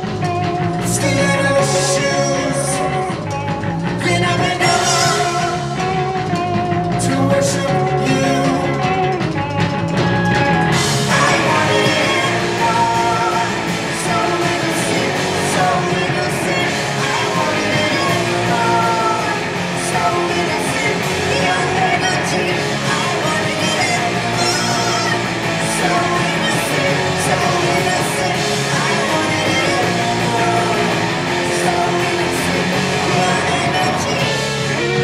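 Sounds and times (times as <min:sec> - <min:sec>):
person singing: 0:00.0 - 0:09.3, 0:10.1 - 0:35.0
live rock band playing: 0:00.0 - 0:35.0.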